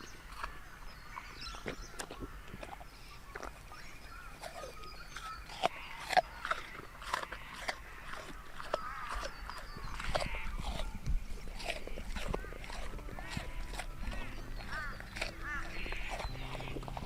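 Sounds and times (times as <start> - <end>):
faint birds chirping: 0.0 - 17.0
sharp crunches and clicks: 0.0 - 17.0.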